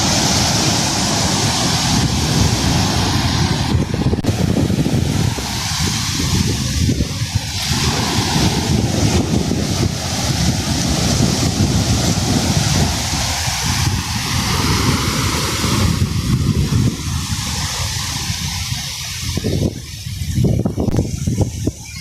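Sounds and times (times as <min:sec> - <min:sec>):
sea waves washing ashore: 0:00.0 - 0:22.0
wind buffeting microphone: 0:00.0 - 0:22.0.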